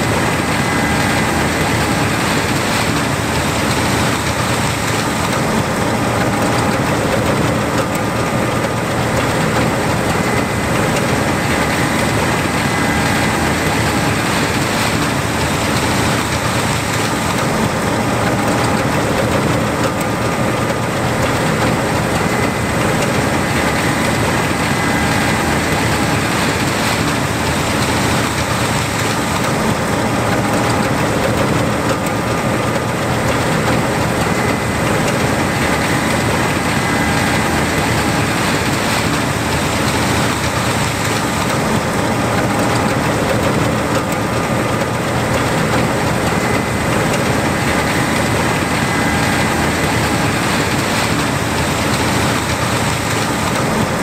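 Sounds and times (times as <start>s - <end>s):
combine diesel engine running: 0.0s - 54.0s.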